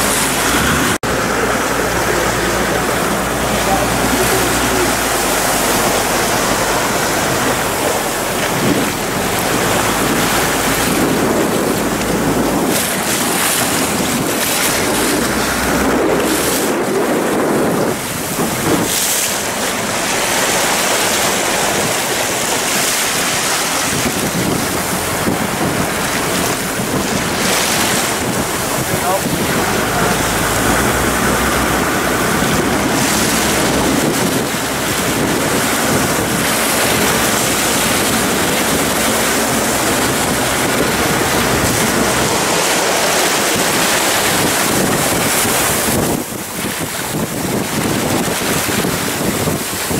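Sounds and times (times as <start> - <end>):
water rushing past boat hull: 0.0 - 49.9
wind buffeting microphone: 0.0 - 49.9.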